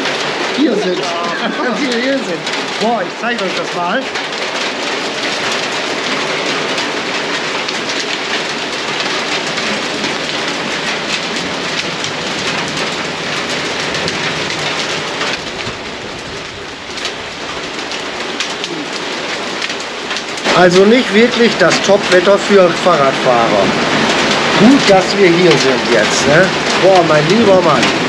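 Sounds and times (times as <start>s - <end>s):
heavy rain on hard surfaces: 0.0s - 28.0s.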